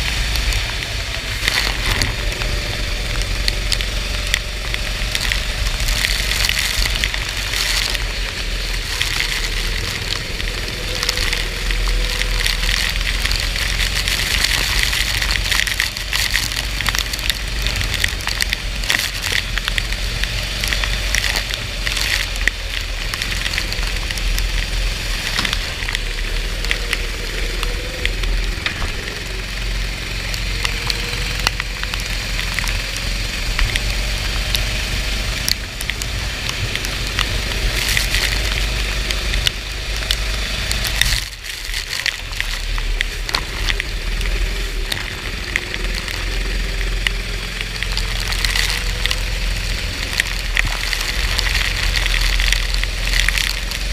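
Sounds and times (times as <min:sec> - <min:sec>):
faint kart engine: 0:00.0 - 0:53.9
low rumble: 0:00.0 - 0:53.9
rain pelting a microphone: 0:00.0 - 0:53.9.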